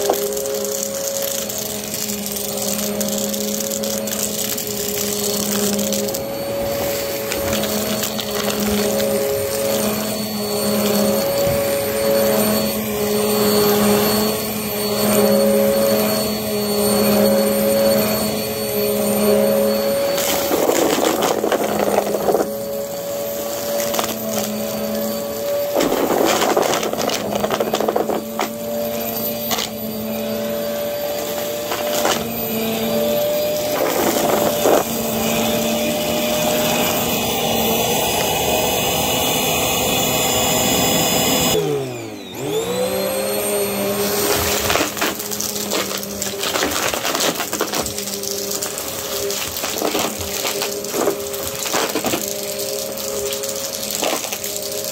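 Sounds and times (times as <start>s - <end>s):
vacuum cleaner on carpet: 0.0s - 54.9s.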